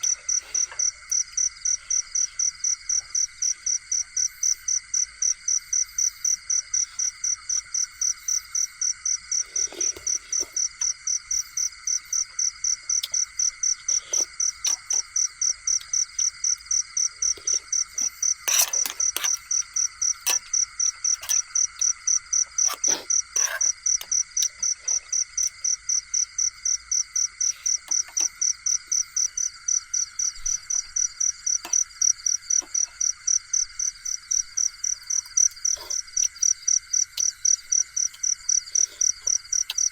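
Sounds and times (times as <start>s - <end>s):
cricket chirping: 0.0s - 39.9s
insects and frogs chorus: 0.0s - 39.9s.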